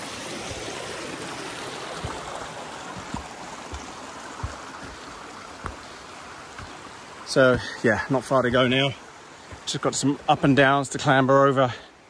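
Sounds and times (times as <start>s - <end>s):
footsteps on forest trail: 0.0s - 11.9s
stream rushing over rocks: 0.0s - 12.0s.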